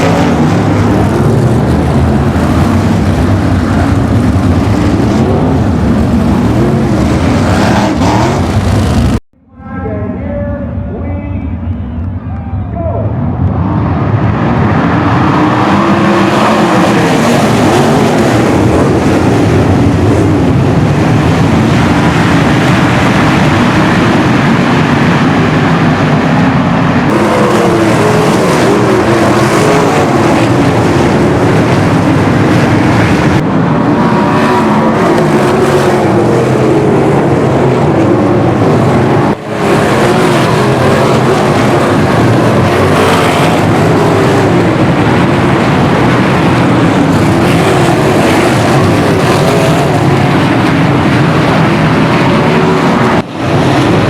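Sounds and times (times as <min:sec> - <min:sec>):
race car engines roaring: 0:00.0 - 0:54.0.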